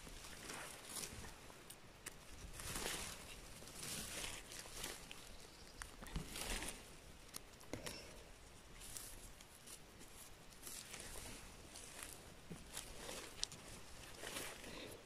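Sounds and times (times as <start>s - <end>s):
rustling of moss and plants: 0.0s - 15.0s.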